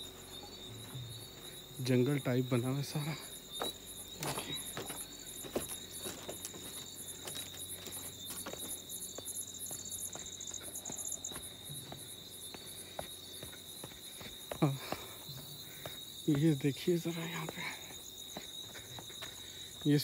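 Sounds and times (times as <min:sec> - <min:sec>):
insects trilling: 0:00.0 - 0:20.0
rapid high cricket chirps: 0:00.0 - 0:20.0.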